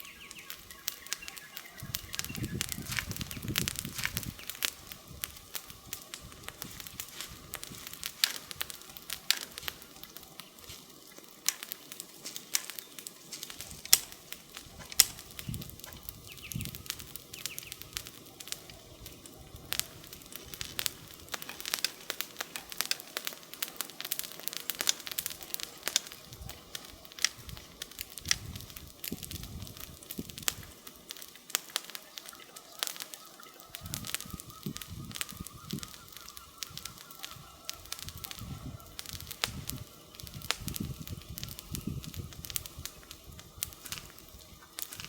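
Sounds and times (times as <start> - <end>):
campfire crackling: 0.0 - 45.0.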